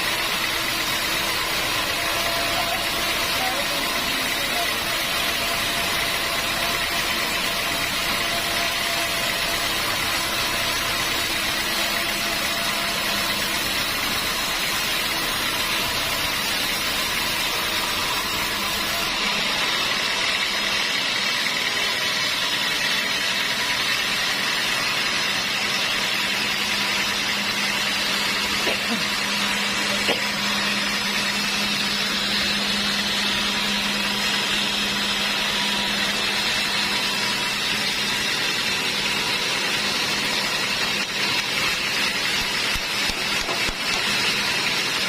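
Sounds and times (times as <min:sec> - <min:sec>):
sawmill machinery droning: 0:00.0 - 0:45.0.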